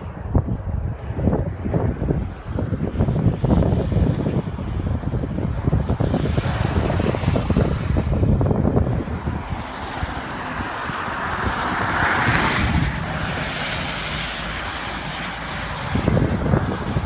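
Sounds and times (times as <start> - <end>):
steady rushing noise: 0.0 - 17.0
wind buffeting microphone: 0.0 - 17.0.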